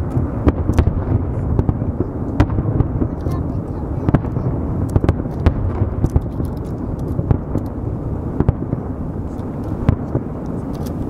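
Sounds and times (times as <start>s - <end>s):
echoing booms rumble: 0.0s - 10.4s
firework shells bursting: 0.0s - 11.0s.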